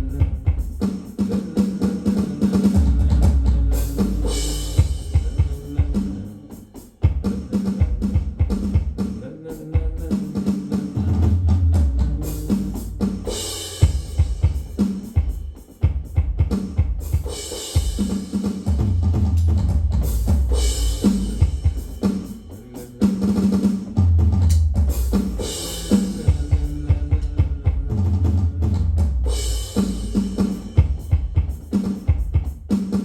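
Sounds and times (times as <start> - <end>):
drum beat: 0.0 - 33.0.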